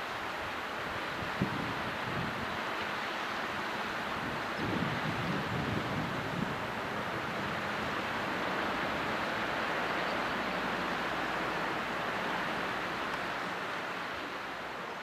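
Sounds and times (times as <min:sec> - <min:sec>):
water rushing down a channel: 0:00.0 - 0:15.0.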